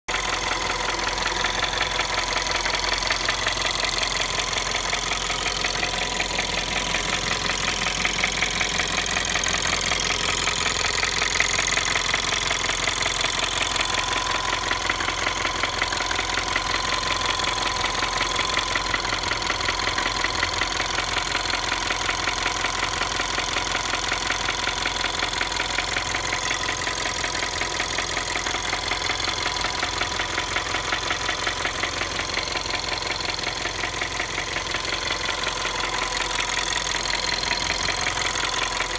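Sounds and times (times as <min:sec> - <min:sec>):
car engine running with knocking: 0:00.1 - 0:38.9.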